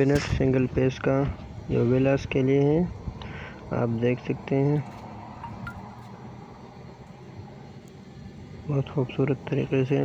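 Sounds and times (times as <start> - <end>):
faint hiss: 0.0 - 10.0.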